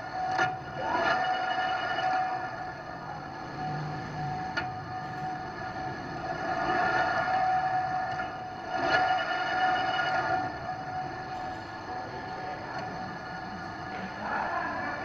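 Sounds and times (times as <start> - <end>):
metal lathe gear whine: 0.0 - 15.0.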